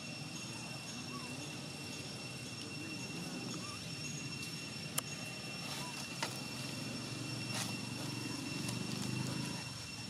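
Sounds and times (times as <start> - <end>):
distant voices murmuring: 0.0 - 10.0
high-pitched whine: 0.0 - 10.0.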